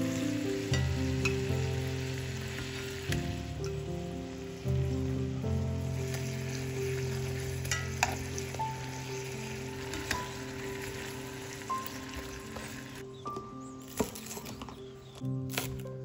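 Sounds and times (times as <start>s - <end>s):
food sizzling in a frying pan: 0.0s - 13.0s
soft background music: 0.0s - 16.0s.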